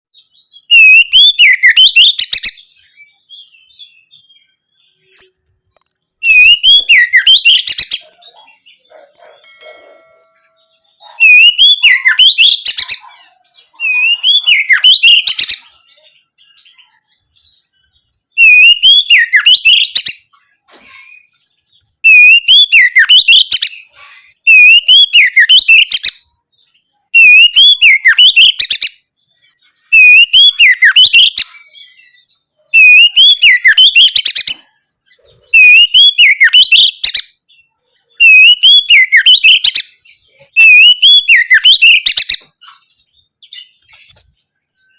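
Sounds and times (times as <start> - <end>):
magpie-robin singing: 0.1 - 44.9.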